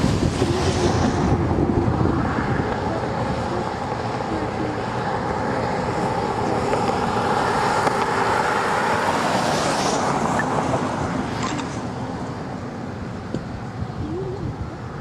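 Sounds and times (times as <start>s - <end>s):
car engine: 0.0s - 15.0s
tyres on road: 0.0s - 15.0s.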